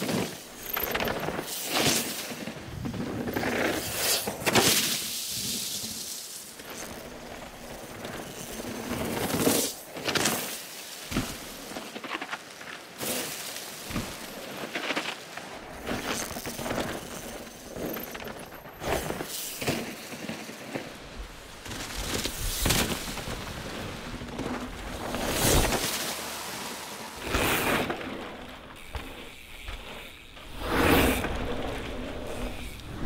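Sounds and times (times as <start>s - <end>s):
bike tyres rushing over leaves: 0.0s - 33.0s.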